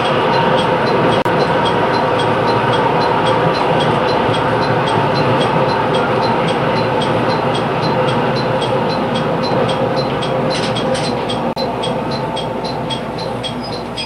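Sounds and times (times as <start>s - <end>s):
faint high ticking: 0.0s - 14.0s
train drone and rumble: 0.0s - 14.0s.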